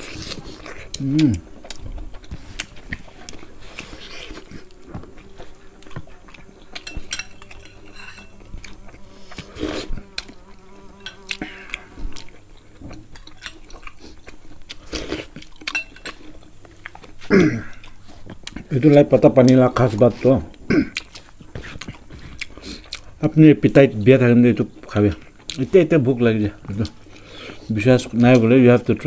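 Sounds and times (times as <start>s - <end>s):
chewing and lip smacking: 0.0s - 23.3s, 24.8s - 25.8s.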